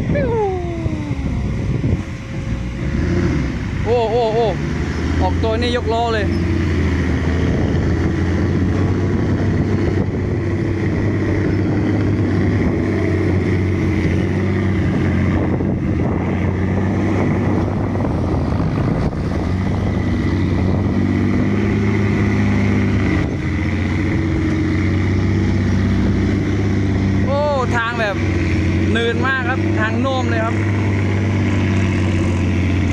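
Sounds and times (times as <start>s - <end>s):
diesel truck engine under load: 0.0s - 32.9s.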